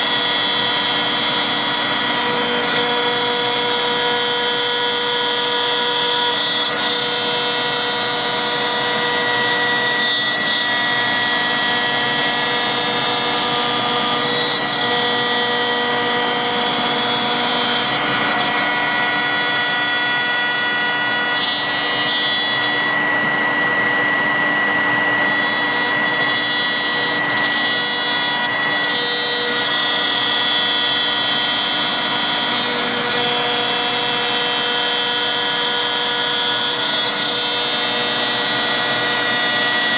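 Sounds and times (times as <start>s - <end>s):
router cutting plywood: 0.0s - 39.9s
router spindle whining: 0.0s - 39.9s.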